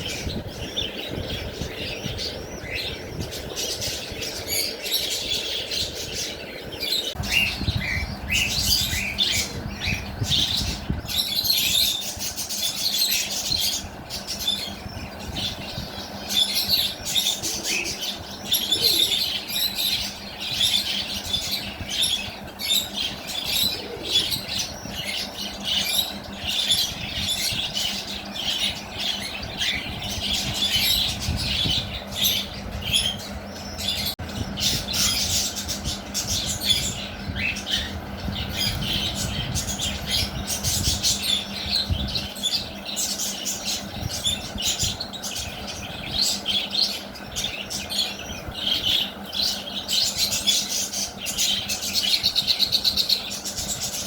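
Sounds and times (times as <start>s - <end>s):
lovebirds chirping and squawking: 0.0s - 54.0s.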